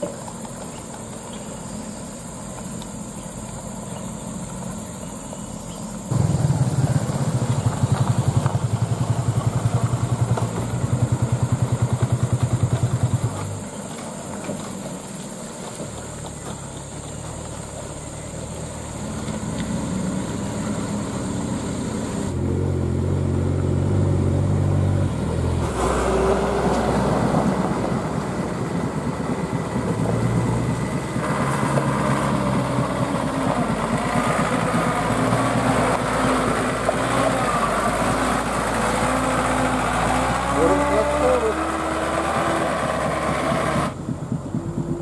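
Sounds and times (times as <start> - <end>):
diesel truck engines under load: 0.0 - 45.0.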